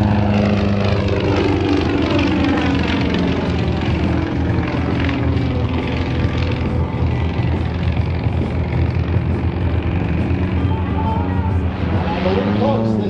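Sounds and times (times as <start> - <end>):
radial aircraft engine and propeller: 0.0 - 13.0.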